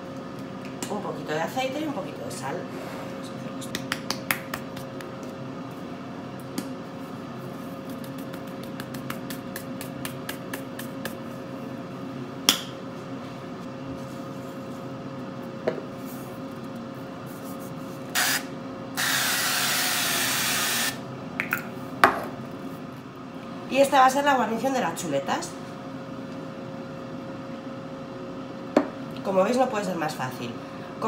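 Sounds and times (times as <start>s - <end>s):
air fryer hum: 0.0s - 31.0s.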